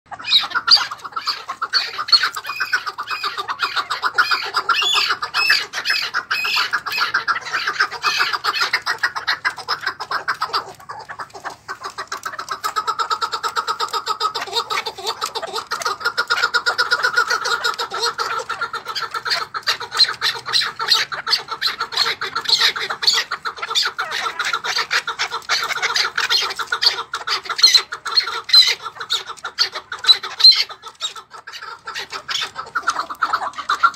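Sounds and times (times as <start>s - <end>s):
partridges chucking calls: 0.1s - 33.9s.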